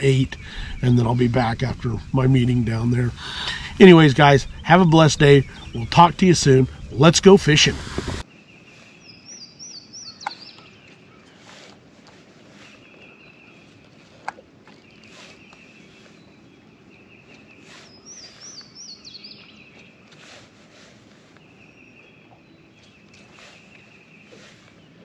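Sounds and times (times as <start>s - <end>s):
birds singing high trills: 0.0s - 11.7s, 12.5s - 25.0s.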